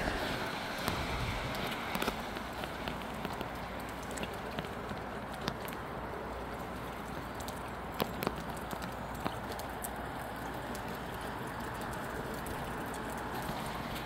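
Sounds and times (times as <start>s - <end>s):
rain hissing: 0.0s - 14.0s
raindrops ticking on a surface: 0.0s - 14.0s.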